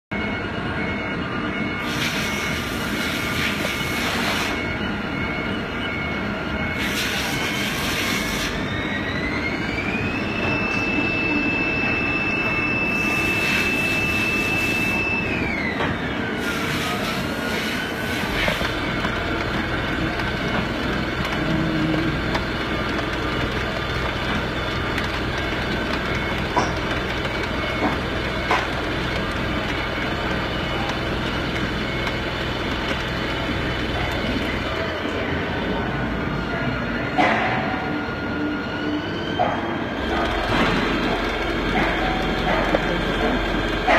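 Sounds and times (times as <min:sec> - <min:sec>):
drive whine: 0:00.1 - 0:43.9
lathe machine noise: 0:01.8 - 0:36.6, 0:38.3 - 0:43.9.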